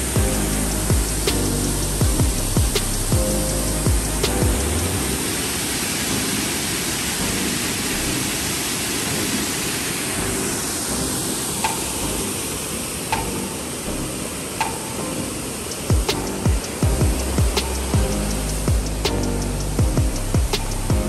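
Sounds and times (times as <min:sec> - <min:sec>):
water rushing over weir: 0:00.0 - 0:21.0.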